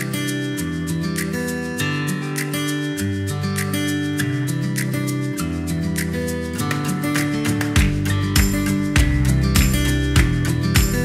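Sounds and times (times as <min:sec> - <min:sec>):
strummed acoustic guitar chords: 0:00.0 - 0:11.0.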